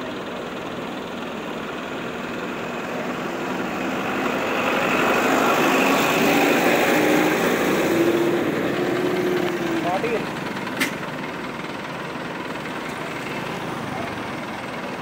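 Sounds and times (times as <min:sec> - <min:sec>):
truck driving past: 0:00.0 - 0:15.0.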